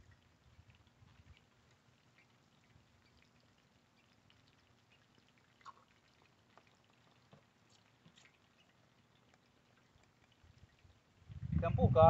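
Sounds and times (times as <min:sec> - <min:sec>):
small ticks: 0:00.7 - 0:11.0.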